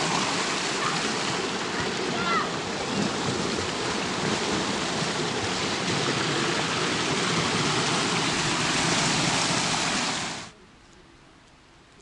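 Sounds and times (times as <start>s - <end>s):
water rushing over rocks: 0.0s - 10.5s.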